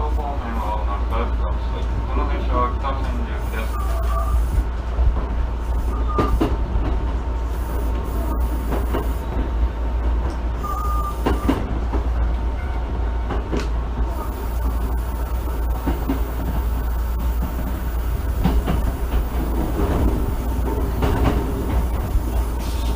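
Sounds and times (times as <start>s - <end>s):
train rumbling: 0.0s - 22.9s.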